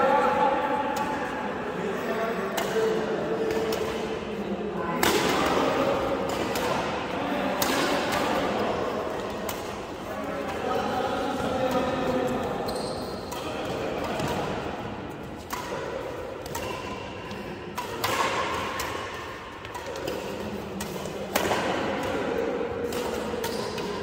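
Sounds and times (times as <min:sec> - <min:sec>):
murmur of voices: 0:00.0 - 0:24.0
rackets hitting shuttlecock: 0:02.5 - 0:04.2, 0:05.0 - 0:24.0.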